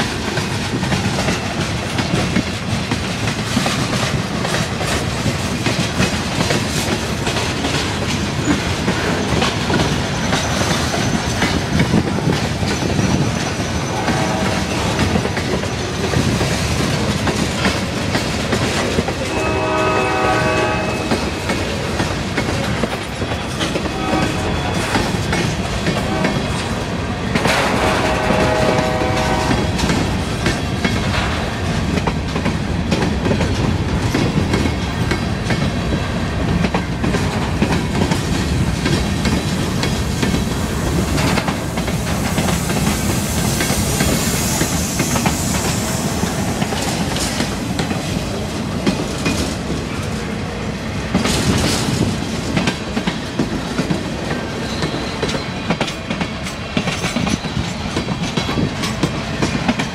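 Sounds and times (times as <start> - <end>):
train wheels clacking over rail joints: 0.0 - 59.9.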